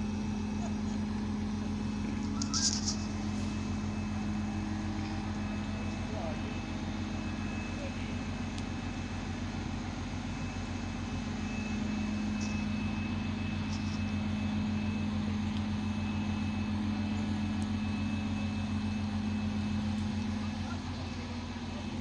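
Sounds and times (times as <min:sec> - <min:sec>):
thin high whine: 0:00.0 - 0:21.2
crane diesel engine running: 0:00.0 - 0:22.0.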